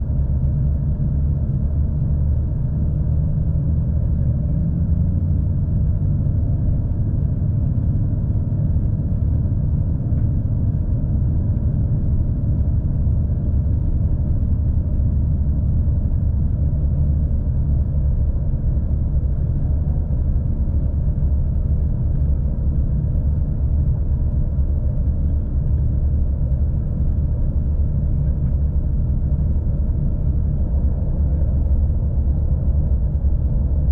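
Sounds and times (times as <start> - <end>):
train rumbling at speed: 0.0 - 33.9.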